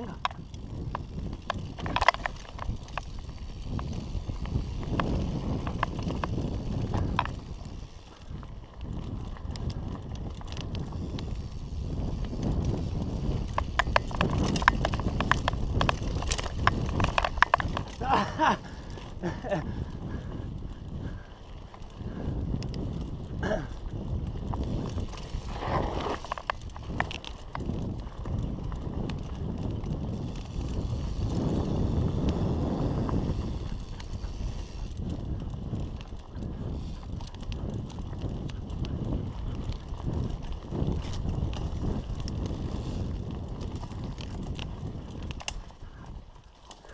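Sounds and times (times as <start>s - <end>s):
bike tyres rumbling on dirt: 0.0s - 46.9s
stones clicking and bike rattling: 0.0s - 46.9s
wind on microphone: 0.0s - 46.9s.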